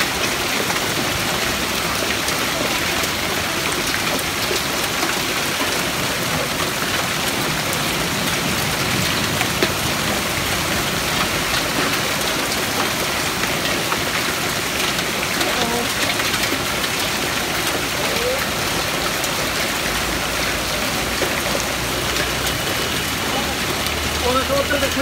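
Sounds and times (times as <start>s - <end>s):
hailstones ticking on pavement: 0.0s - 25.0s
heavy rain hissing: 0.1s - 25.0s.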